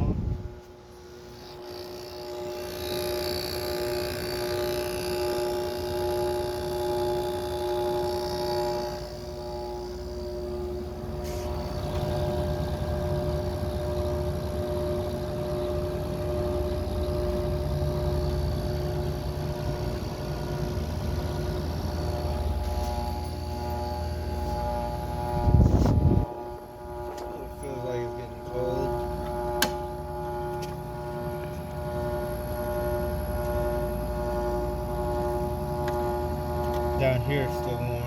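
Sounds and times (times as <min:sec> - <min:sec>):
fan air rushing: 0:00.0 - 0:01.7, 0:07.6 - 0:38.0
air conditioner electric hum: 0:00.0 - 0:38.0.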